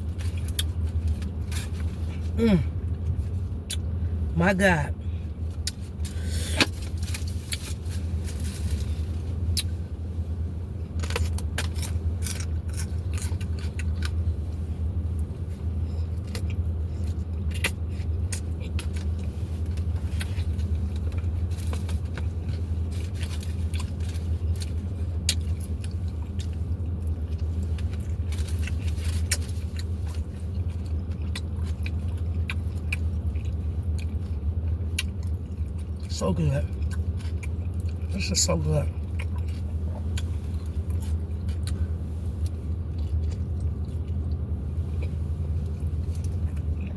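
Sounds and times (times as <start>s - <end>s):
person chewing crunchy food: 0.0s - 4.0s, 5.4s - 46.9s
steady low hum: 0.0s - 46.9s.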